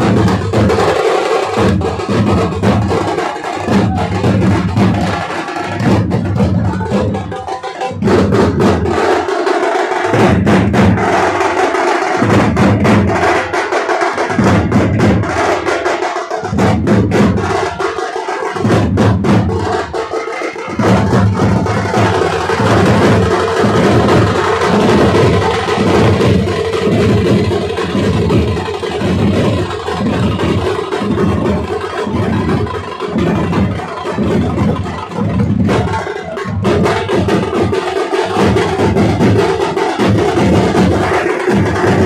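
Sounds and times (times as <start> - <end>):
drum band playing: 0.0 - 42.0.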